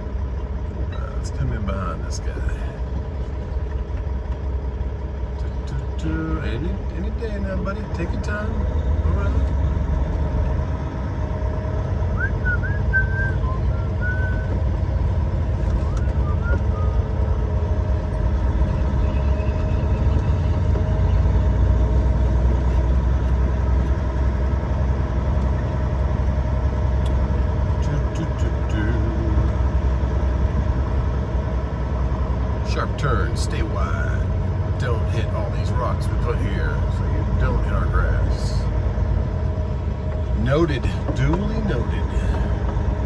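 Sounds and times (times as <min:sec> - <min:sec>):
truck diesel engine rumble: 0:00.0 - 0:43.0.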